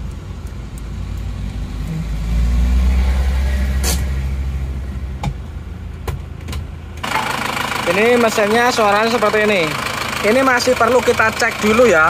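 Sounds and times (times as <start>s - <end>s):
diesel engine rumbling in cabin: 0.0s - 12.0s.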